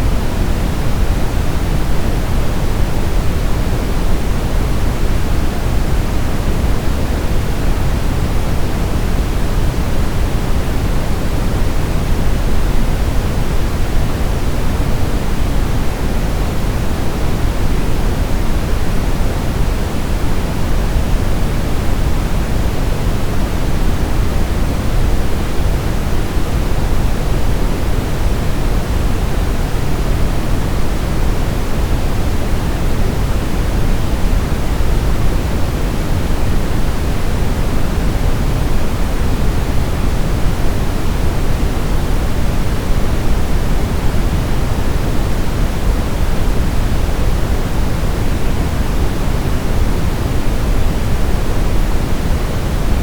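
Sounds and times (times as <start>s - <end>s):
brown noise hiss: 0.0s - 53.0s.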